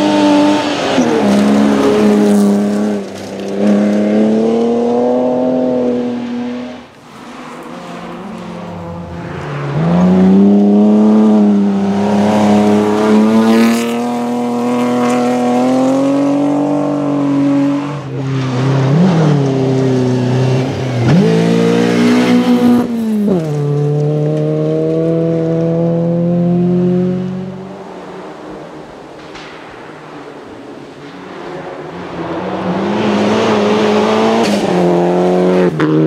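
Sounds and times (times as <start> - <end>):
rally car engine revving: 0.0 - 28.8, 31.3 - 36.0.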